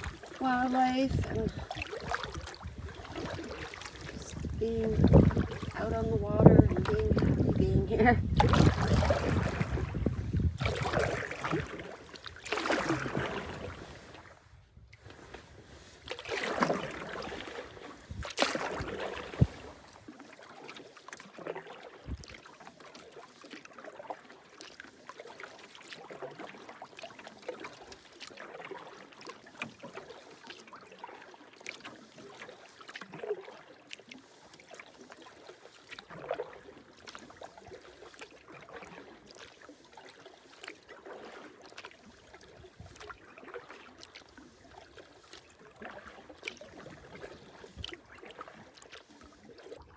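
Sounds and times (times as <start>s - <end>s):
paddle pulling through water: 0.0s - 49.9s
water trickling off paddle: 0.0s - 49.9s.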